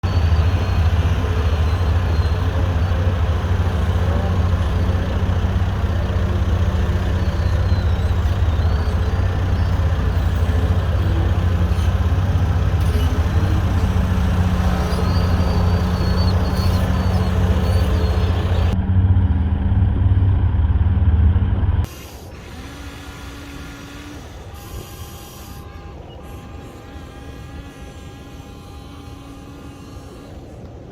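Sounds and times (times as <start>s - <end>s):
excavator diesel engine droning: 0.0s - 30.9s.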